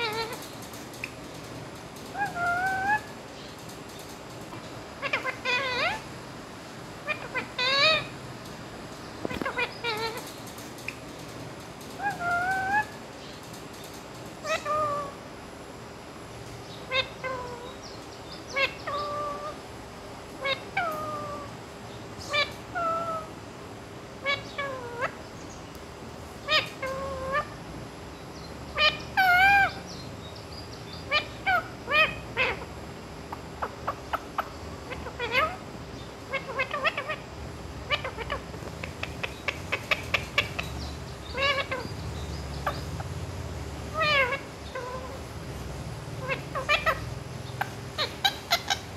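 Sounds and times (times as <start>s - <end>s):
parakeet calling and chirping: 0.0s - 6.2s, 7.0s - 15.2s, 16.6s - 19.7s, 20.3s - 23.4s, 24.1s - 25.7s, 26.3s - 48.9s.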